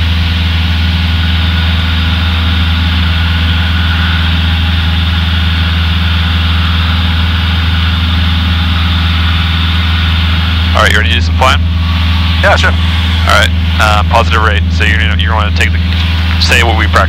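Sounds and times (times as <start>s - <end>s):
plane engine and propeller drone: 0.0s - 17.0s.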